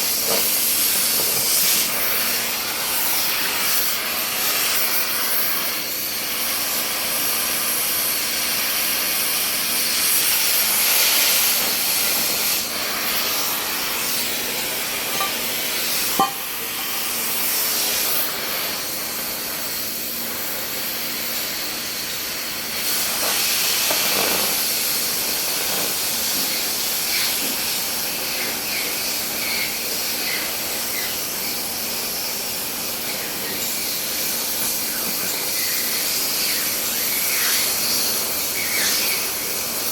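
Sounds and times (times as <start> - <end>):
welding hiss: 0.0 - 39.9.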